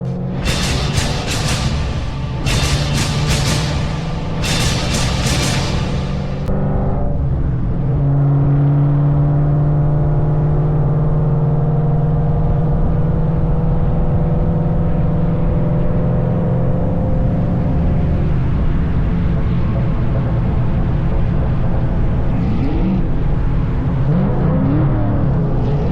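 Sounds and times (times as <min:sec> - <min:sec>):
car exhaust drone: 0:00.0 - 0:25.9.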